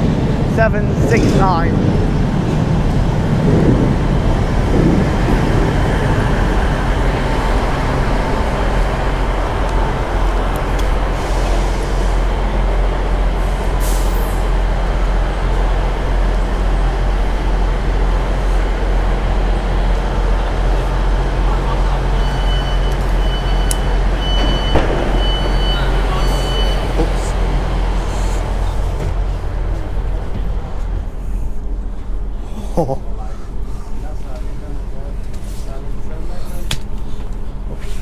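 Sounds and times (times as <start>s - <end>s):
diesel train engine hum: 0.0s - 38.0s.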